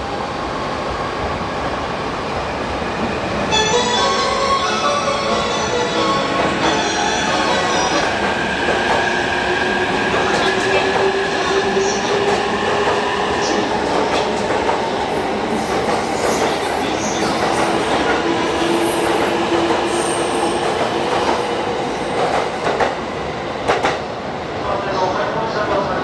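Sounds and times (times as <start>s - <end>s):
rail and wheel noise: 0.0s - 26.0s.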